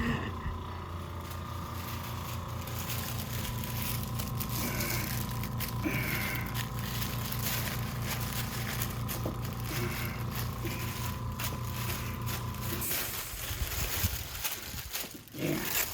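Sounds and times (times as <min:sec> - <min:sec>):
steady low hum: 0:00.0 - 0:15.9
paper sheet crackling: 0:01.0 - 0:15.9.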